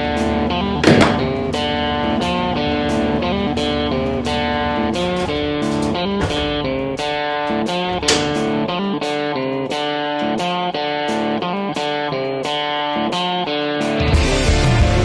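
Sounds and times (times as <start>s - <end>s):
plucked electric guitar bluesy line: 0.0s - 15.0s.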